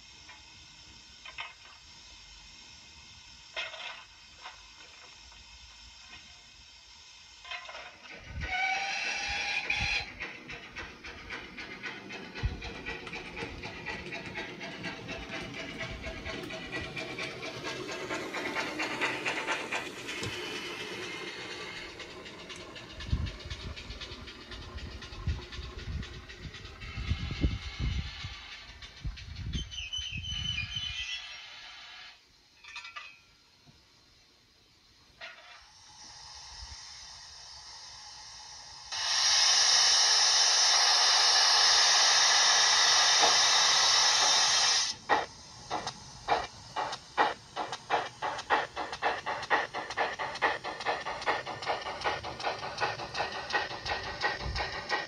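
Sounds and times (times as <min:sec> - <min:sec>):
steam locomotive chuffing from speaker: 0:00.0 - 0:32.6, 0:33.3 - 0:55.0.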